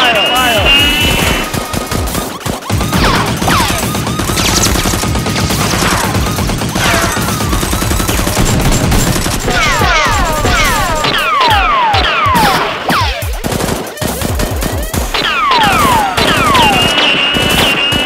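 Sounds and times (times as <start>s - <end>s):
rapid automatic gunfire: 0.3s - 18.0s.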